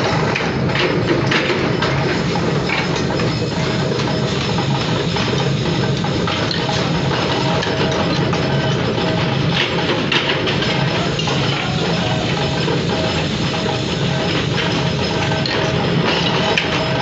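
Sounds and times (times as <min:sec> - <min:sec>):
forging presses droning: 0:00.0 - 0:17.0.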